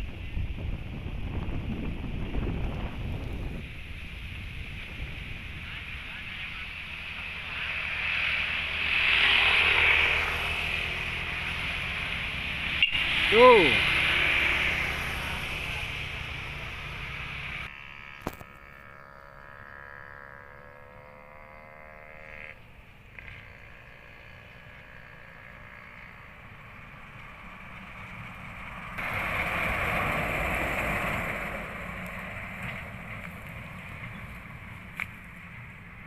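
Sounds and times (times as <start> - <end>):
truck engine drone: 1.8 - 36.0
motorbike engine passing: 5.6 - 36.0.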